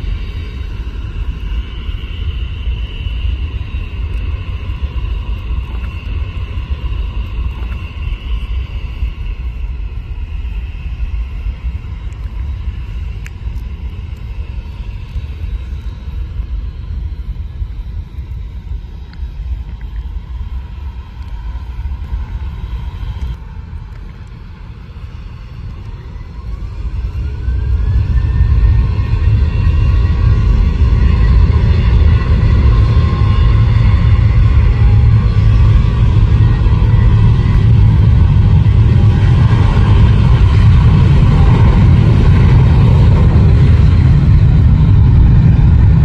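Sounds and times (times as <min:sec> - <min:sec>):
jet engines whining: 0:00.0 - 0:46.0.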